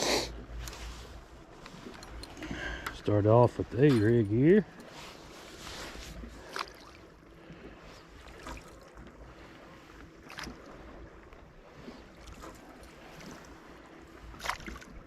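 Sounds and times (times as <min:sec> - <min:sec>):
faint wind: 0:00.0 - 0:15.0
open water ambience: 0:00.0 - 0:15.0.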